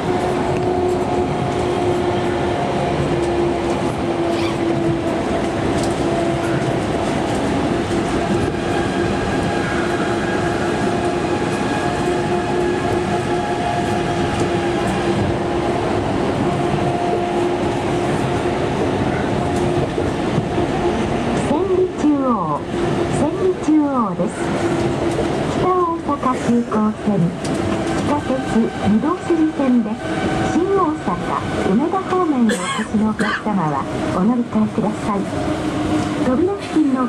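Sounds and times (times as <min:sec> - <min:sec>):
monorail tyres rumbling: 0:00.0 - 0:37.0.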